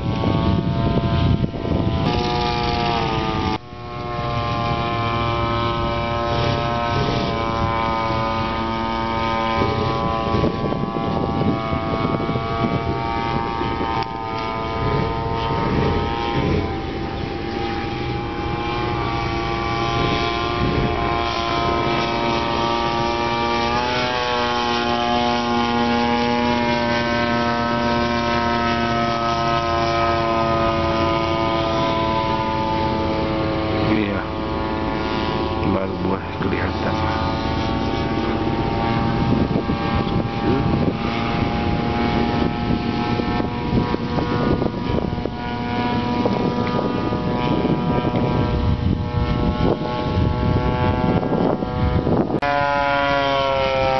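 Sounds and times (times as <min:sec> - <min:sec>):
model airplane engine droning: 0:00.0 - 0:53.9.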